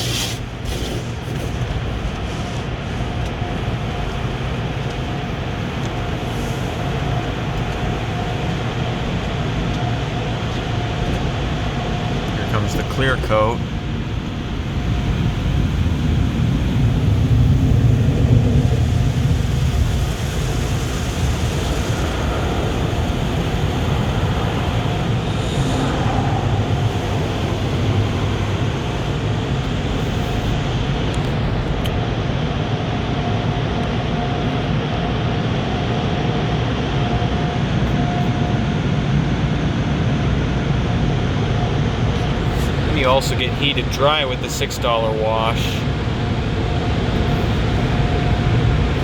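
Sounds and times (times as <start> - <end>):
car wash machinery rumbling: 0.0 - 49.0.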